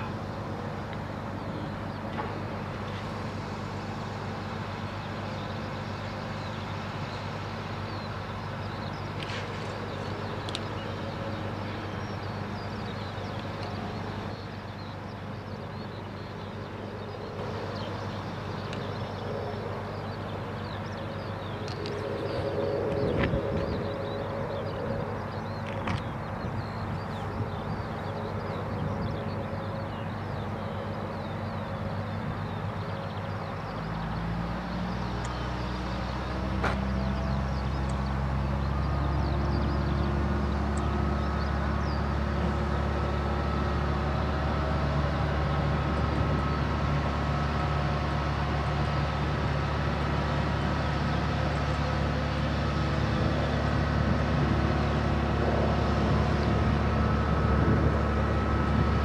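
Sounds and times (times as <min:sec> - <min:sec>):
crane diesel engine under load: 0:00.0 - 0:59.0.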